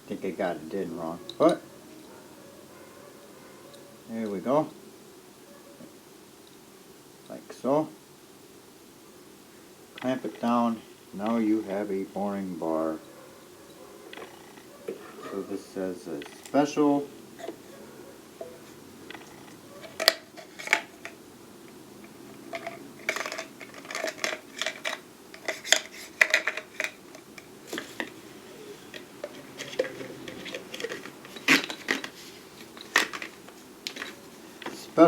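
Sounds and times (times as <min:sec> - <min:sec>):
metal tools clinking: 0:00.4 - 0:04.4, 0:10.0 - 0:21.2, 0:22.0 - 0:35.0.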